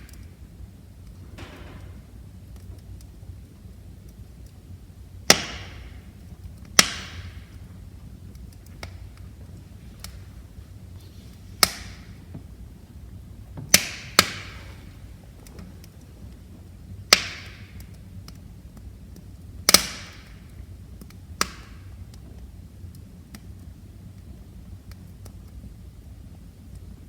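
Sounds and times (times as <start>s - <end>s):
burning logs popping: 0.0s - 27.0s
low fire rumble: 0.0s - 27.0s
wood fire crackling: 0.0s - 27.0s.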